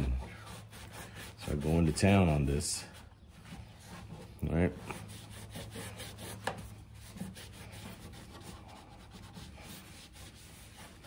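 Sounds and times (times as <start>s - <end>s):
cloth rubbing on metal door: 0.0s - 11.0s.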